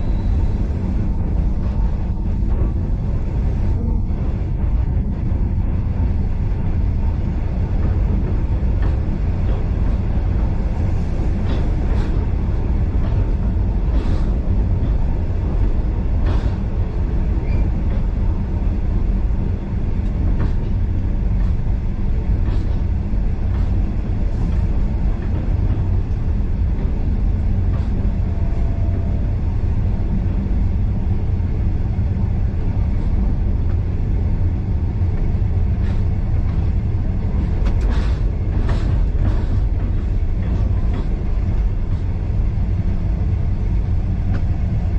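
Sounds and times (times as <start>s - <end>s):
train carriage rumble: 0.0s - 44.9s.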